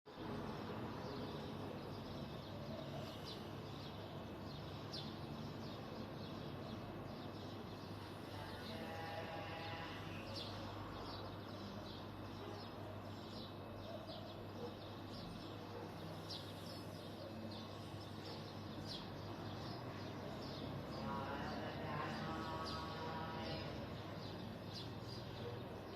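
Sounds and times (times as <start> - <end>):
low hum of street noise: 0.1 - 25.9
sparrows chirping: 0.1 - 25.9.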